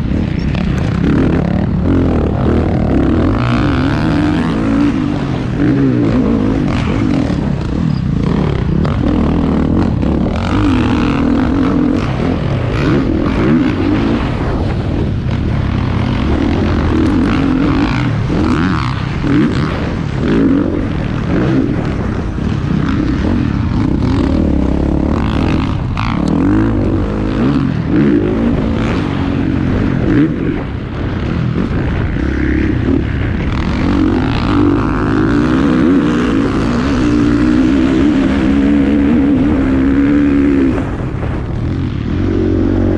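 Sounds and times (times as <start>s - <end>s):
motocross bikes revving: 0.0s - 42.9s.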